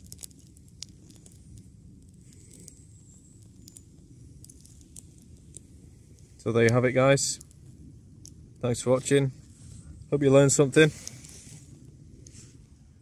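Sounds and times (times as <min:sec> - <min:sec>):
fire crackling: 0:00.0 - 0:13.0
low fire rumble: 0:00.0 - 0:13.0.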